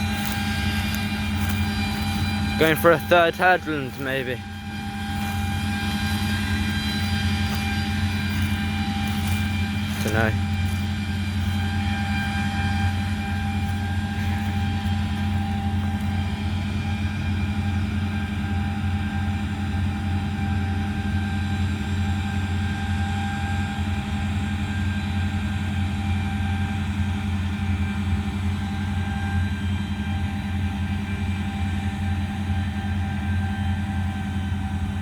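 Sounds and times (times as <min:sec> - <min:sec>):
diesel engine droning: 0:00.0 - 0:35.0
faint steady whine: 0:00.0 - 0:35.0.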